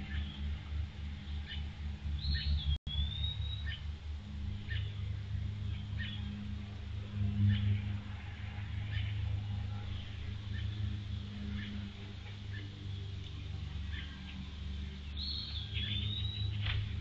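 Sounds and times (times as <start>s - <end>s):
birds chirping: 0.0s - 17.0s
low pulsing hum: 0.0s - 17.0s.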